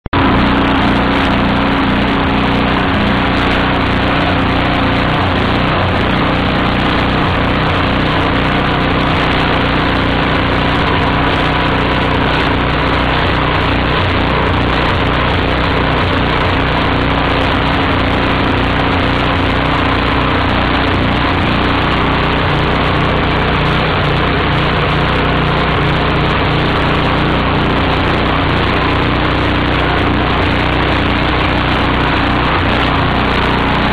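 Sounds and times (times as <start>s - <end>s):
small generator engine running: 0.0s - 33.9s.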